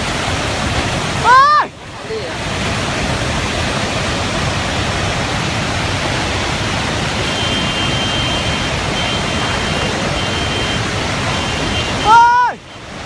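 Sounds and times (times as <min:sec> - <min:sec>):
torrent of water rushing: 0:00.0 - 0:13.0.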